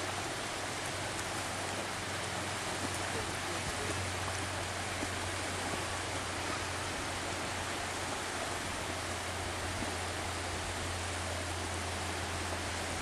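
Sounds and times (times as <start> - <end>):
surf washing on sandy beach: 0.0 - 13.0.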